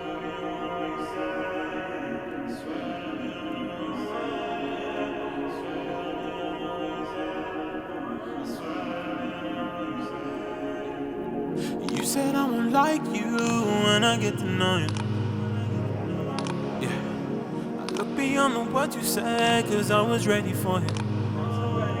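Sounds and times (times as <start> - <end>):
layered held chord: 0.0 - 22.0.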